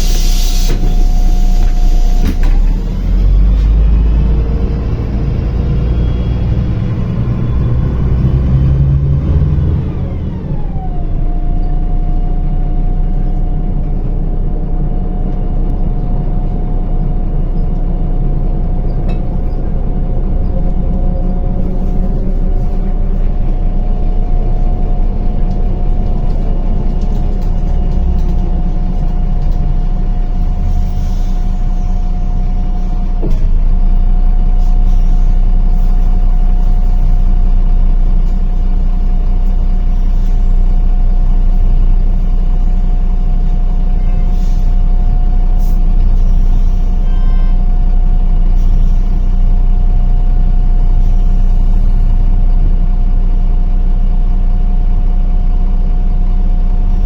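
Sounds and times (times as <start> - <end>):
bus engine and road hum: 0.0 - 57.0.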